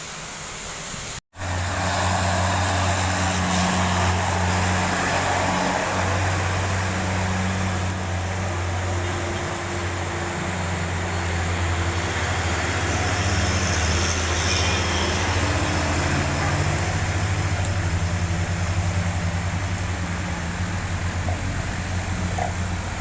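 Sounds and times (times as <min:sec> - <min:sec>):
rain hiss on wet road: 0:00.0 - 0:23.0
truck engine at low revs: 0:00.5 - 0:14.5, 0:15.1 - 0:23.0.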